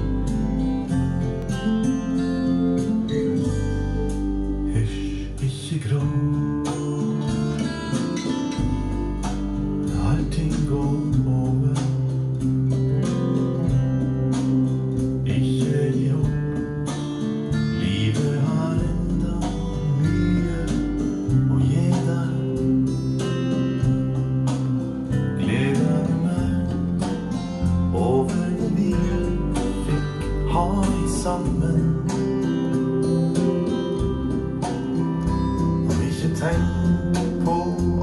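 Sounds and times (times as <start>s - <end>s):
acoustic guitar music over loudspeakers: 0.0s - 38.0s.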